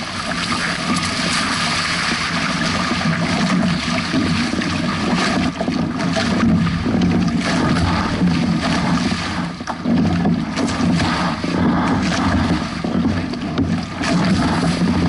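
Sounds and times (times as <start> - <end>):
water splashing against hulls: 0.0 - 15.0.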